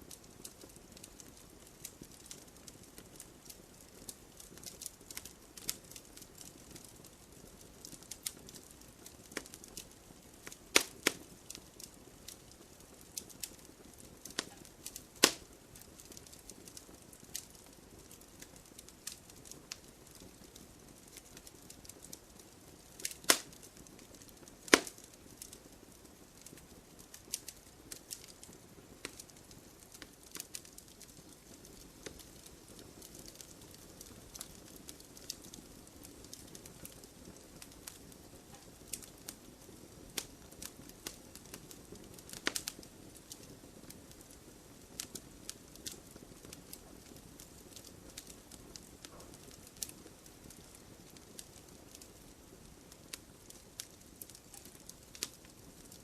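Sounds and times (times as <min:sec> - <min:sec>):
soft steady hiss: 0:00.0 - 0:56.0
wood fire crackling and popping: 0:00.0 - 0:56.0.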